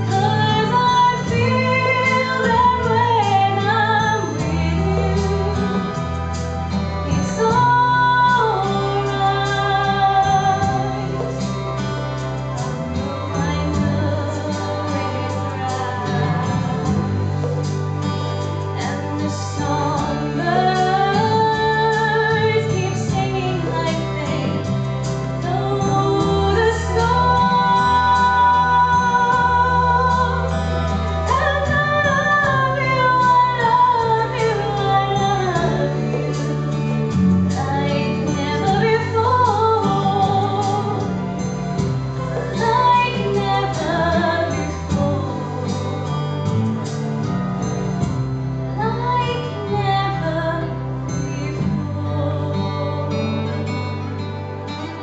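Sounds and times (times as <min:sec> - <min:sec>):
woman singing into microphone: 0:00.0 - 0:11.9, 0:12.5 - 0:47.3, 0:48.7 - 0:54.9
instrumental backing track: 0:00.0 - 0:55.0.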